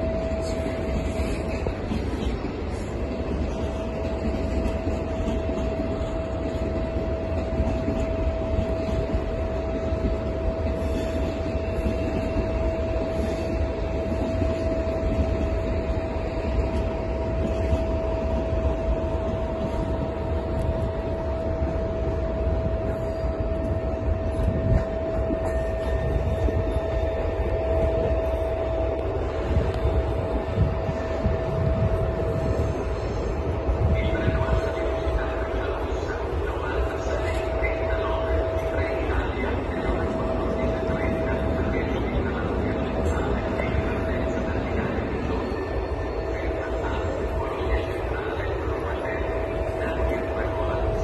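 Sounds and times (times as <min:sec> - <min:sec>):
steady whine: 0:00.0 - 0:51.0
train running rumble: 0:00.0 - 0:51.0.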